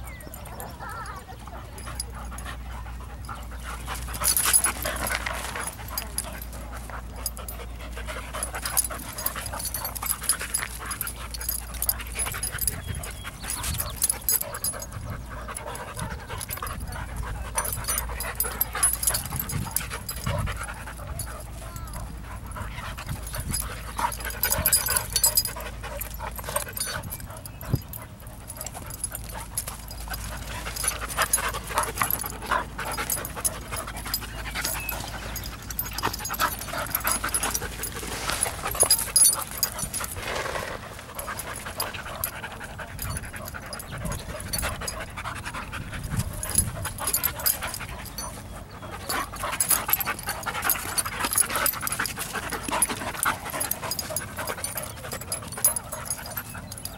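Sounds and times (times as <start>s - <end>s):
dogs panting: 0.0s - 56.9s
dogs scuffling: 1.6s - 56.9s.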